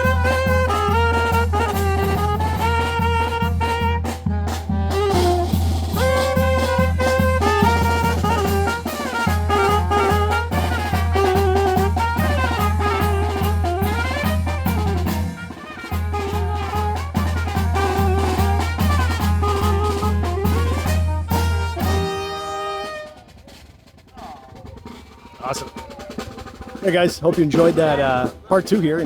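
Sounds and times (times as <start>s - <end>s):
brass band playing upbeat tune: 0.0s - 29.0s
steady drum beat: 0.0s - 29.0s
trumpets: 0.0s - 29.0s.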